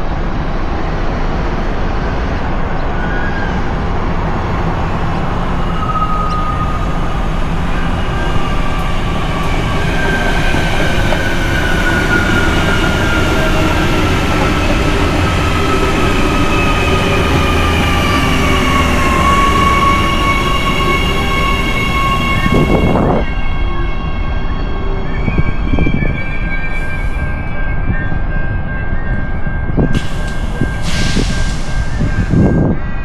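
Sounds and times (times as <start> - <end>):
train wheels rumbling on rail: 0.0 - 33.0
high squealing wheels: 2.2 - 33.0.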